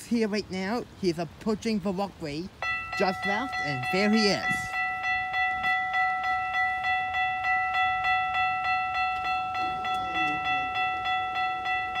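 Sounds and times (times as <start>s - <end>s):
railway crossing bell ringing: 1.7s - 12.0s.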